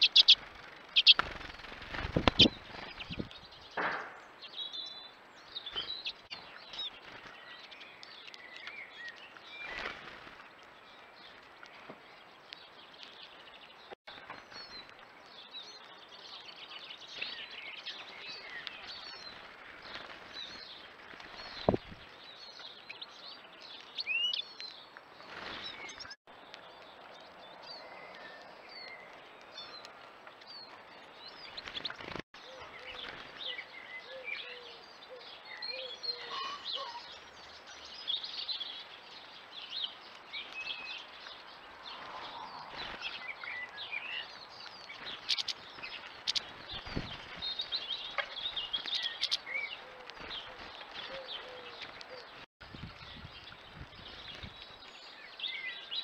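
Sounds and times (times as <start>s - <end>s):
outdoor background noise: 0.0s - 56.0s
small songbirds chirping: 0.0s - 56.0s.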